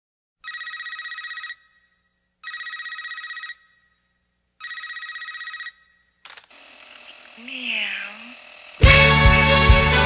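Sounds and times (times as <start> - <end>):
telephone ringing: 0.4 - 8.9.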